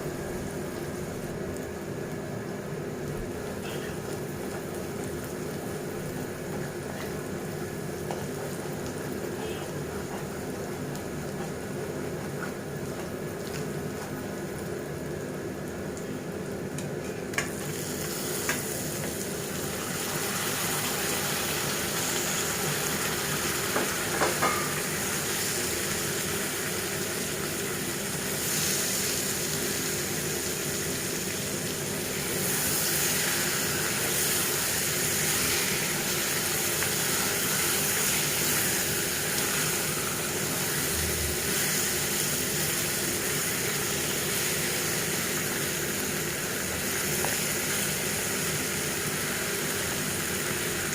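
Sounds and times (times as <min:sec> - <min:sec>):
food sizzling in oil: 0:00.1 - 0:50.9.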